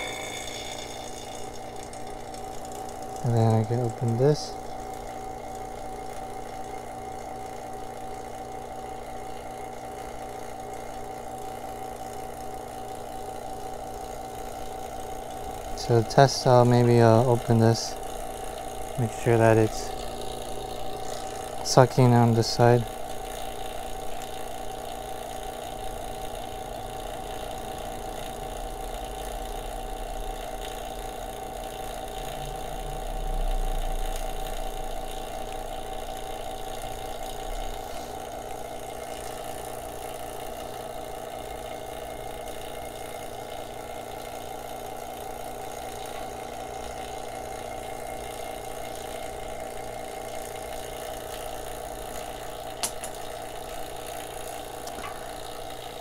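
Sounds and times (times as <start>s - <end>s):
vacuum pump motor humming: 0.0s - 56.0s.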